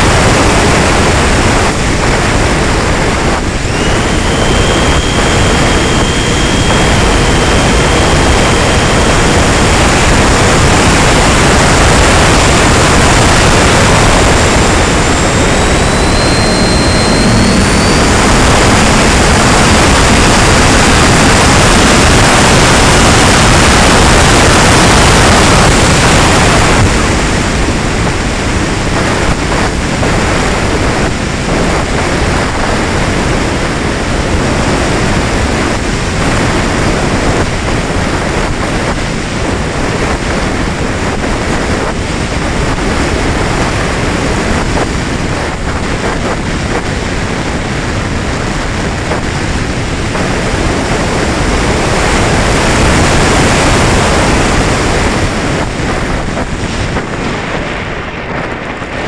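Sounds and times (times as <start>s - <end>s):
airflow rushing over microphone: 0.0s - 59.0s.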